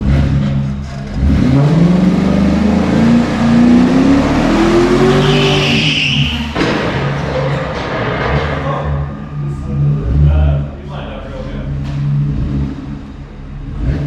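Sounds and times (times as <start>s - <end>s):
car engine accelerating hard: 0.0s - 6.9s, 8.9s - 14.0s.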